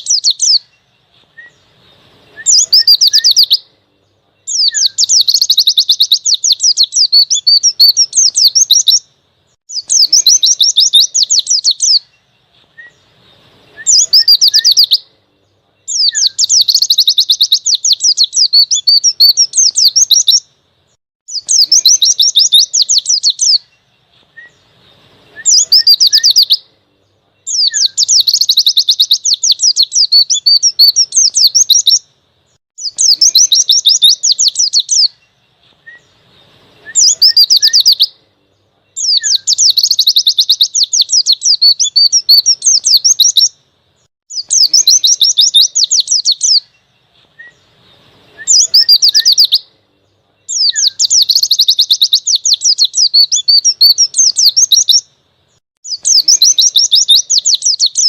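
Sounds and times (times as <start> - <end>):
bird twittering warble: 0.0 - 20.6, 21.3 - 58.0.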